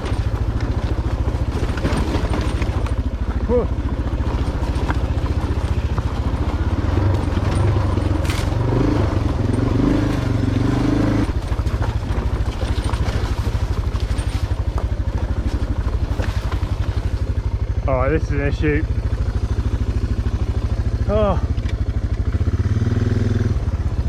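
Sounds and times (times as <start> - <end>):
motorcycle engine chugging: 0.0 - 24.0.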